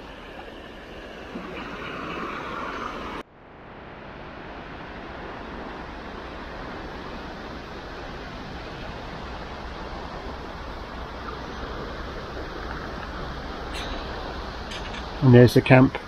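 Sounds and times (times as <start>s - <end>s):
sea surf washing ashore: 0.0s - 16.0s.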